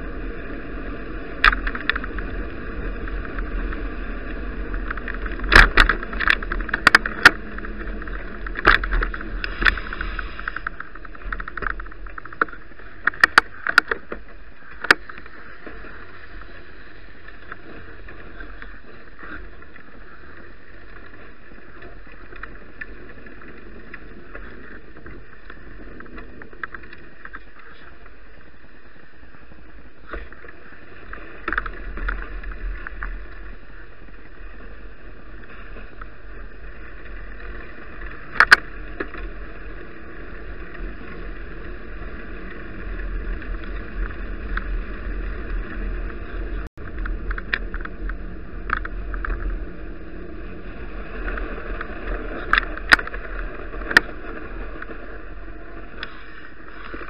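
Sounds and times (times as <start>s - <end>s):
bicycle tyres and wind hissing: 0.0s - 57.0s
rough rumble: 0.0s - 57.0s
bike clicks and knocks: 1.3s - 28.2s, 29.9s - 57.0s.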